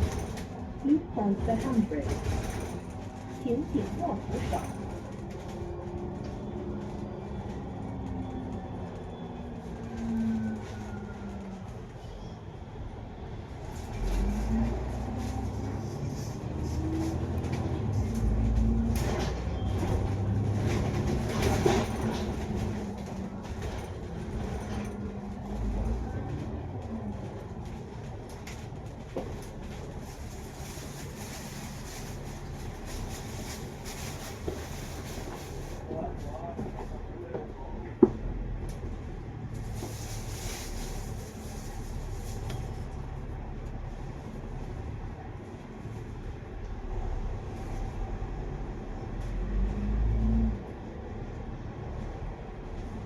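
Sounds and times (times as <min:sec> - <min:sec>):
bus engine hum and rumble: 0:00.0 - 0:53.0.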